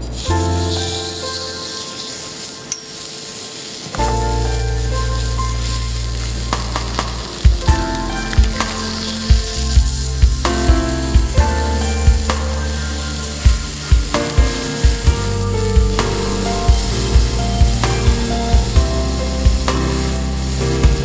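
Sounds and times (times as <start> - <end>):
background music with low thumps: 4.0 - 21.0.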